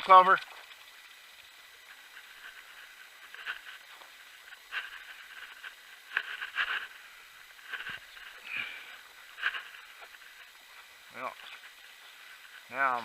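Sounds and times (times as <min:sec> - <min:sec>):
footsteps crunching in snow: 0:01.7 - 0:13.0.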